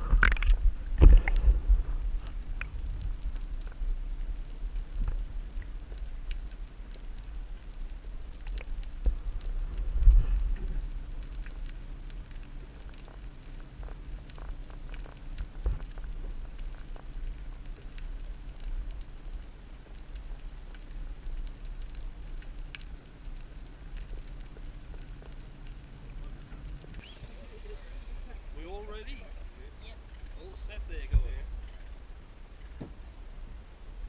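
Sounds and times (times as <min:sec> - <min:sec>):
faint clicks and crackles: 0:00.0 - 0:33.0
underwater low rumble: 0:00.0 - 0:34.0.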